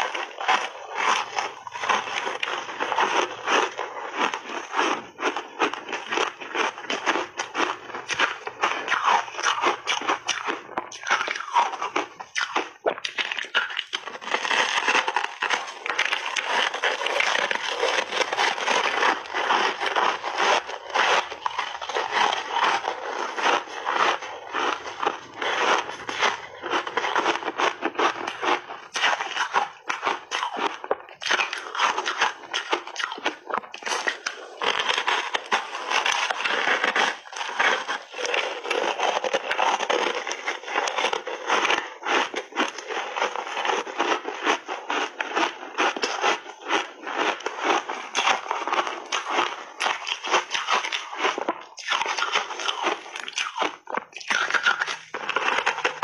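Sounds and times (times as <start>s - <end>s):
ice crunching between teeth: 0.0s - 56.0s.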